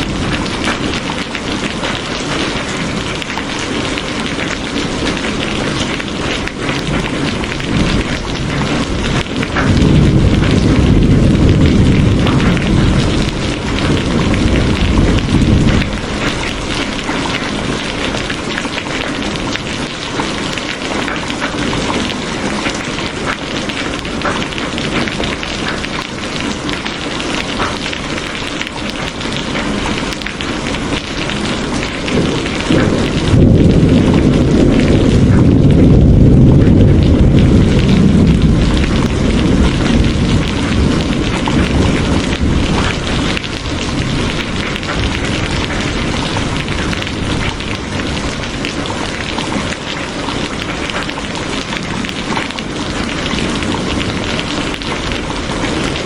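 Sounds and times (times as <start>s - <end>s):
low roll of thunder: 0.0s - 56.0s
steady rain falling: 0.0s - 56.0s.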